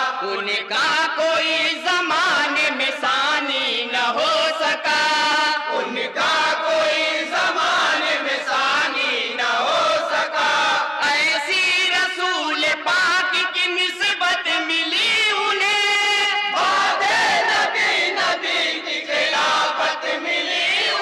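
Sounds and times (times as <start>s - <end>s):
men chanting together: 0.0s - 13.2s, 14.9s - 21.0s.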